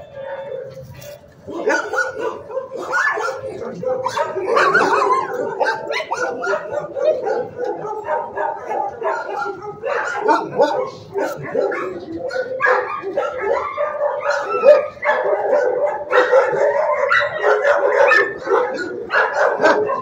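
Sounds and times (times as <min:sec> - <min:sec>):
dogs barking and yelping: 0:00.0 - 0:20.0.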